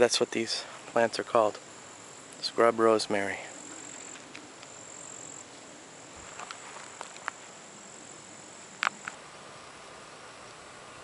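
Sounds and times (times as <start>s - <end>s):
insect trill: 0.0s - 11.0s.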